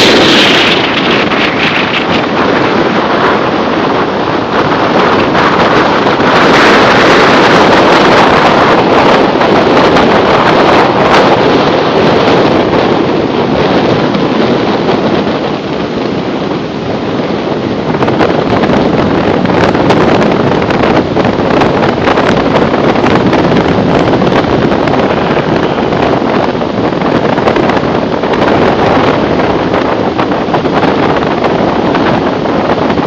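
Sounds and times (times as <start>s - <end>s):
strong wind buffeting microphone: 0.0s - 33.0s.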